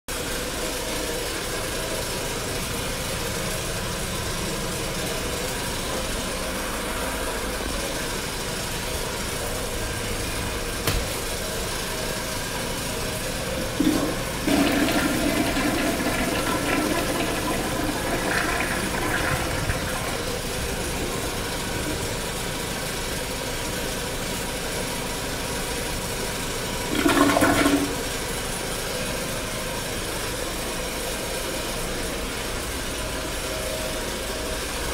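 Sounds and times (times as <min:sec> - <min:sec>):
toilet flushing: 0:00.1 - 0:34.9
steady background hum: 0:00.2 - 0:34.9.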